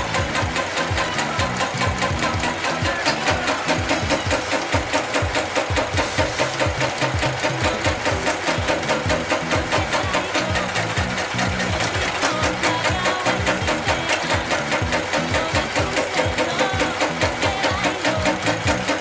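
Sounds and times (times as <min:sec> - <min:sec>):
machine hum: 0:00.0 - 0:19.0
sewing machine needle beat: 0:00.0 - 0:19.0.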